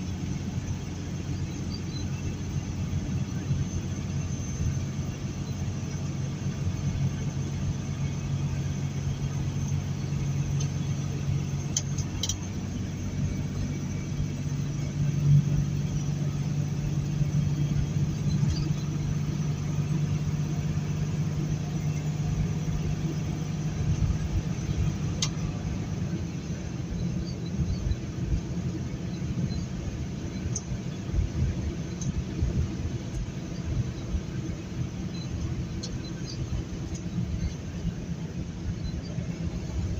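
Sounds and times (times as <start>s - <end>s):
truck engine hum: 0.0s - 39.9s.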